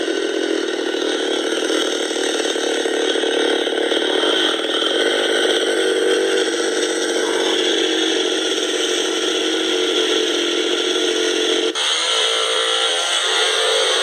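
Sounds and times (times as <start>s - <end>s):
chainsaw engine running: 0.0s - 14.0s.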